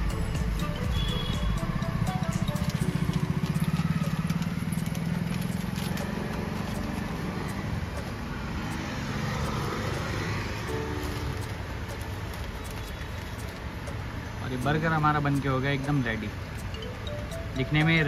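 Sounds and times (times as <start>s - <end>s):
vehicle engine pulsing hum: 0.0s - 18.0s.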